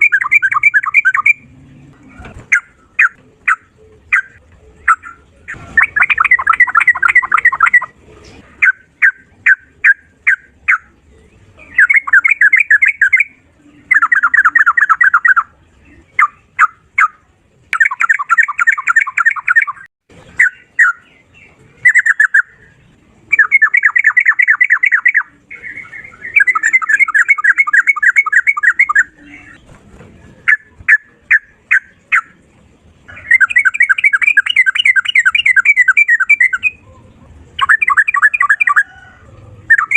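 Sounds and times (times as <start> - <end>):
bird singing trilled phrases: 0.0 - 1.6, 2.4 - 8.0, 8.6 - 29.6, 30.4 - 32.4, 33.1 - 39.1, 39.7 - 39.9.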